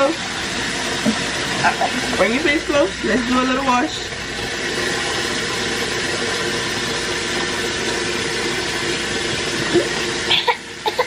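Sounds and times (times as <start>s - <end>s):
bathroom tap running water: 0.0s - 11.0s.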